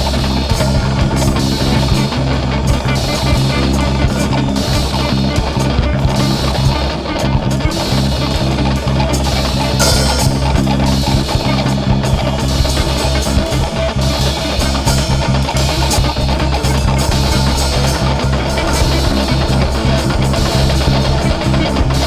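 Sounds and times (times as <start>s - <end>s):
band playing rock music: 0.0s - 22.0s.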